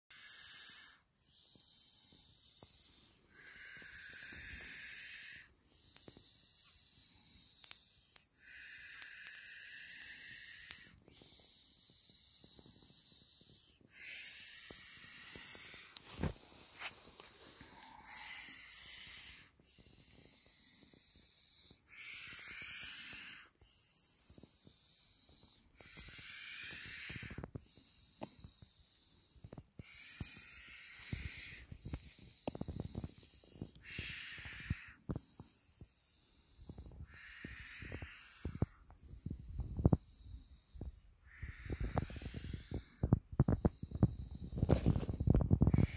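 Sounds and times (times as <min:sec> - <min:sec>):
snake hissing: 0:00.1 - 0:43.0.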